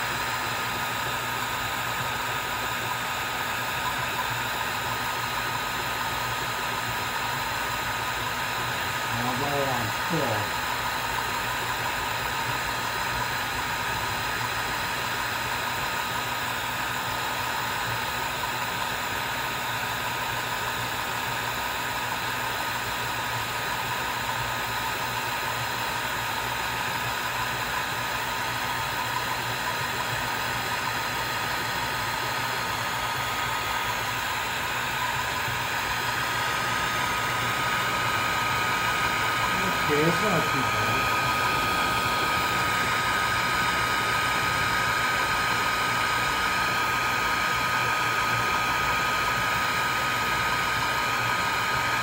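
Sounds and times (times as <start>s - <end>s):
laser engraver whirring: 0.0s - 52.0s.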